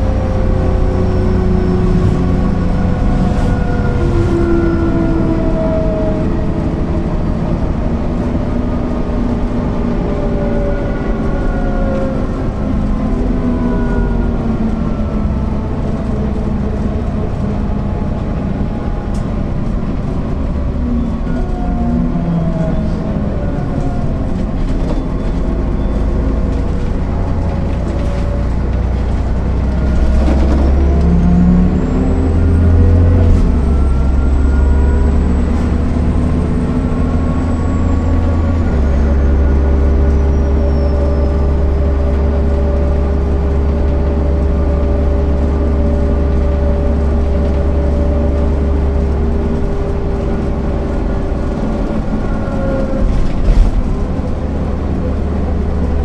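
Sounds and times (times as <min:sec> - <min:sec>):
bus diesel engine changing gear: 0:00.0 - 0:56.0.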